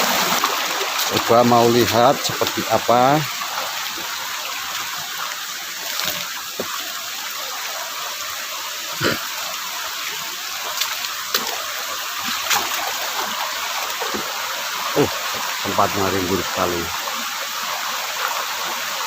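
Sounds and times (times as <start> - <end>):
river water over rocks: 0.0 - 19.0.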